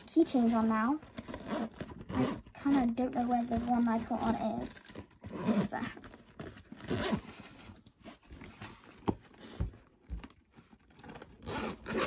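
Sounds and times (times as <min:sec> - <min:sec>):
backpack rustling: 0:00.0 - 0:10.3, 0:11.0 - 0:12.0.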